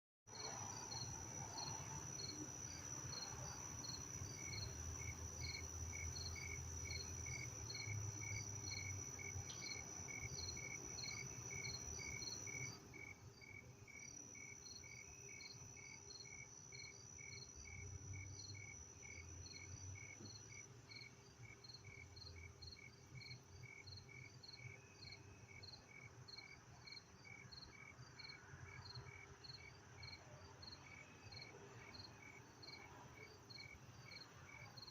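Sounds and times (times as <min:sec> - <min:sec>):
crickets chirping: 0:00.3 - 0:34.9.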